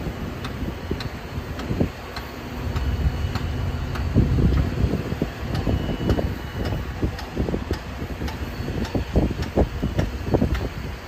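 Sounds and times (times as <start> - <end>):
construction machinery rumbling: 0.0 - 11.0
faint regular ticking: 0.3 - 10.8.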